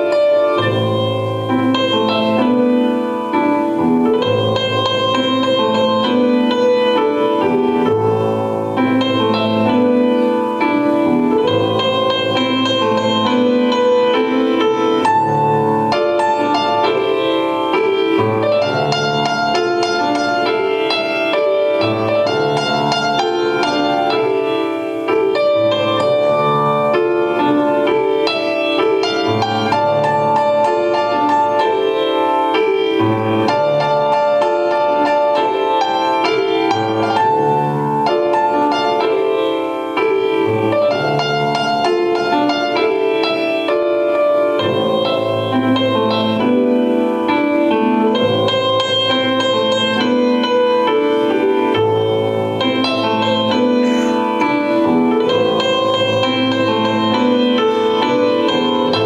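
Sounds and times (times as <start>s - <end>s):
flowing piano piece: 0.0s - 59.0s.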